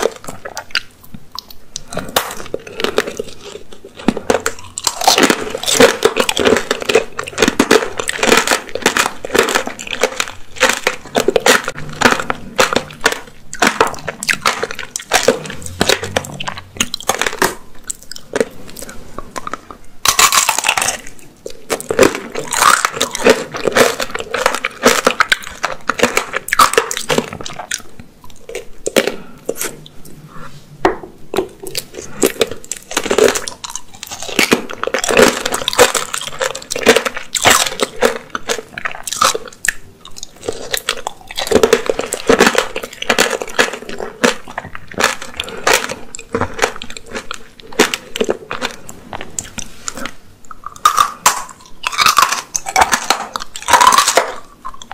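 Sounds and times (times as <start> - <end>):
candy shell cracking and crunching: 0.0 - 30.0, 31.3 - 54.9
chewing fruit: 0.0 - 30.3, 31.3 - 54.9.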